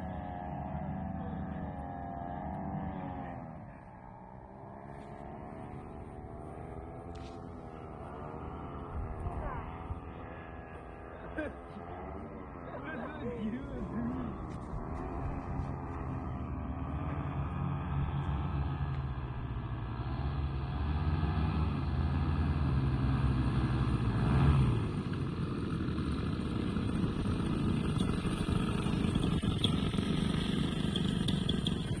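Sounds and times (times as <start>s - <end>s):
twin engines droning: 0.0s - 32.0s.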